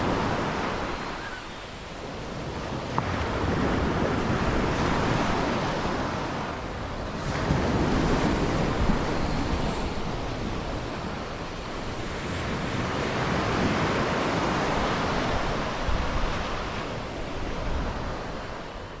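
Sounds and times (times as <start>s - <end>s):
sea waves washing onto shore: 0.0s - 19.0s
wind buffeting microphone: 0.0s - 19.0s.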